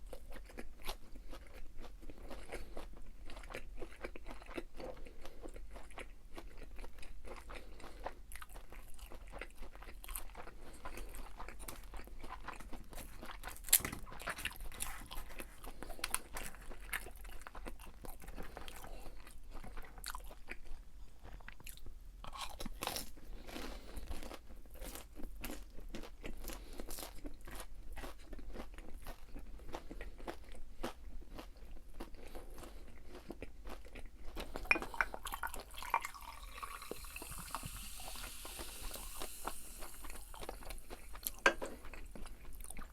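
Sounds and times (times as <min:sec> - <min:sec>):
chewing crispy fried food: 0:00.0 - 0:42.9.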